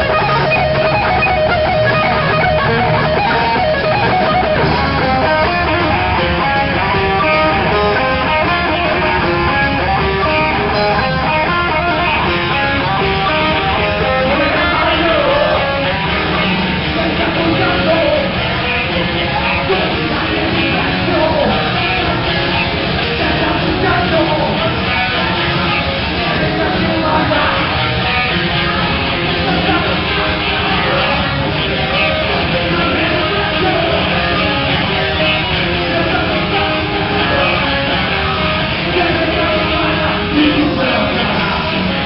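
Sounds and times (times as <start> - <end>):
heavy metal band playing live: 0.0 - 42.0.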